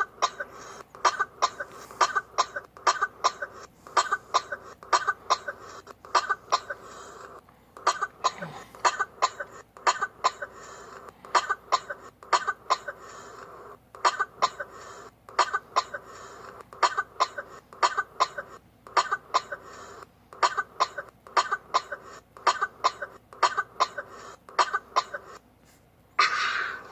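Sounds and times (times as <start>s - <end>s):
person coughing: 0.0s - 13.2s, 14.0s - 14.8s, 15.4s - 25.4s, 26.2s - 26.9s.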